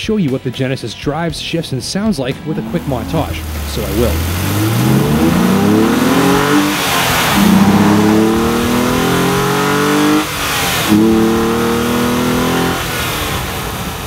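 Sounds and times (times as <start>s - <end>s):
car engine accelerating hard: 1.8s - 14.0s.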